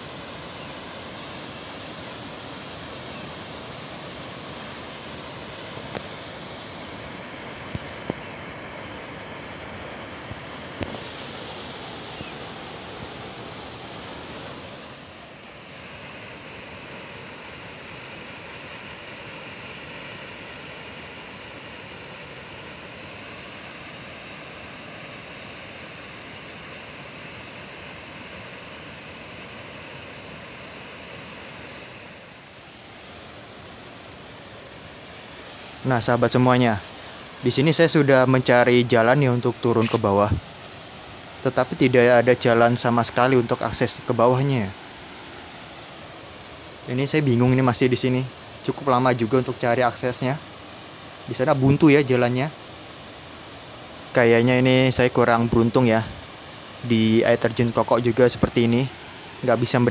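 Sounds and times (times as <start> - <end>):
distant waterfall rushing: 0.0 - 59.9.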